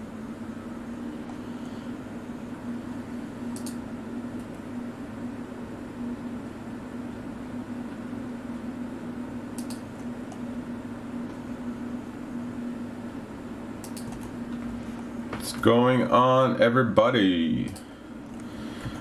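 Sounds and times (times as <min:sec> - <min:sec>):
low electrical hum and hiss: 0:00.0 - 0:19.0.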